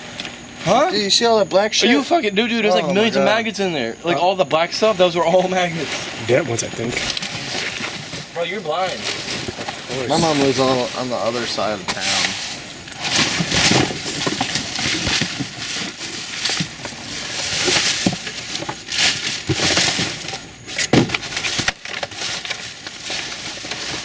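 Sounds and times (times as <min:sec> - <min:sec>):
trash bags rustling and crunching: 0:04.3 - 0:24.0.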